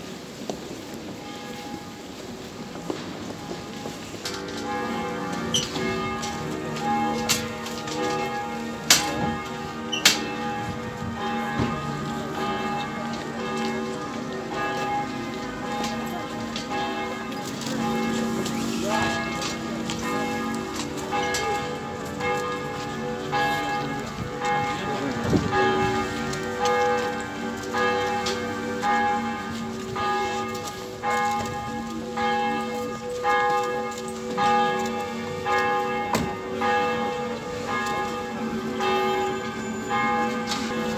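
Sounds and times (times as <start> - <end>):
church bells tolling: 1.0 - 40.9.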